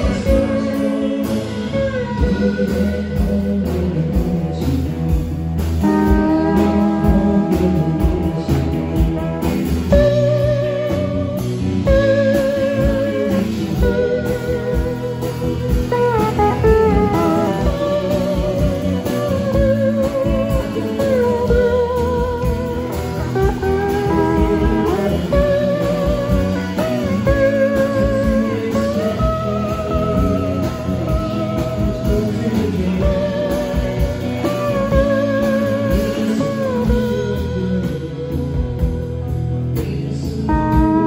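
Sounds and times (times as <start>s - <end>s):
electric guitar lead: 0.0s - 41.0s
rock band playing: 0.0s - 41.0s.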